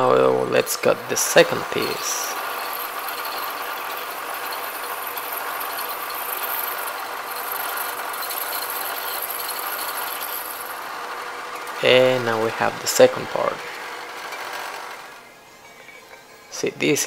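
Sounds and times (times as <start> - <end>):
band saw cutting aluminum: 0.5 - 16.8.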